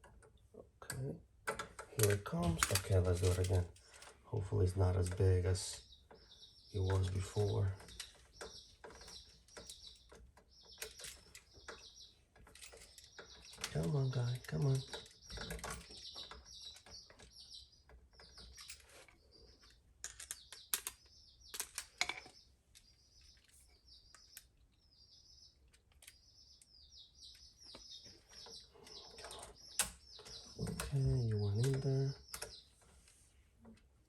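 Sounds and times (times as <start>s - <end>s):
wires clicking and knocking: 0.0s - 32.8s
small birds chirping: 0.0s - 34.0s.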